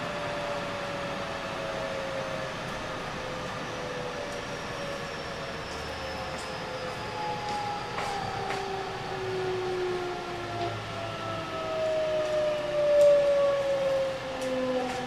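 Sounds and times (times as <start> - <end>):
low train running rumble: 0.0 - 15.0.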